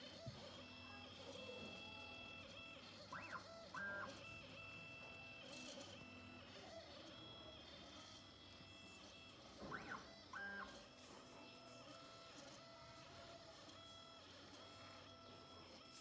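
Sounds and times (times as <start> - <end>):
stepper motors whining: 0.0 - 16.0.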